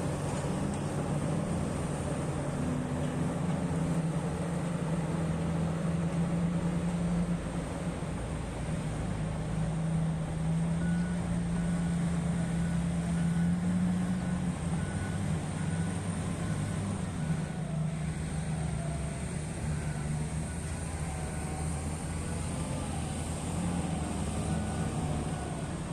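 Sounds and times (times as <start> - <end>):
diesel engine droning: 0.0 - 25.9.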